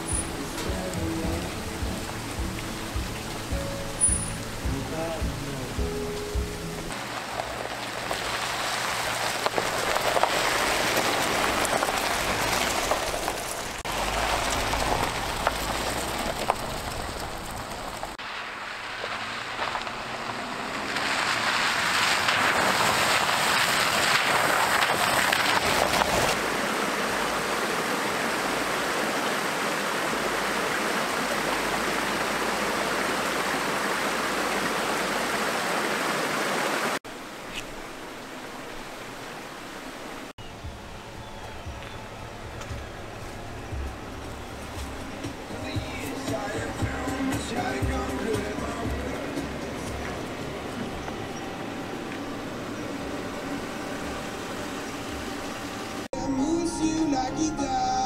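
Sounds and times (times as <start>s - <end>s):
steady rain falling: 0.0s - 56.2s.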